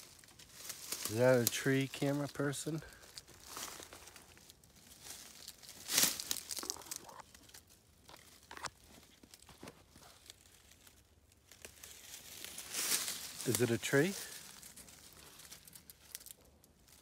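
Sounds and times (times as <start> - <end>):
footsteps in dry leaves: 0.0 - 17.0.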